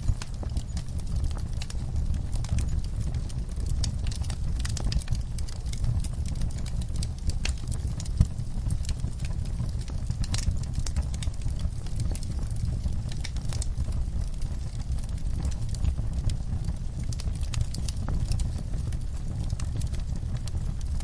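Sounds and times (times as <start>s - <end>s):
low rumble of burning logs: 0.0s - 21.0s
wood fire crackling and popping: 0.0s - 21.0s.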